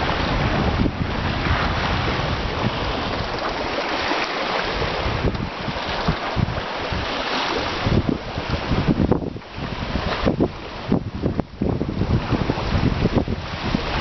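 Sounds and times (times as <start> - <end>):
water rushing along a hull: 0.0 - 14.0
wind buffeting the microphone: 0.0 - 14.0.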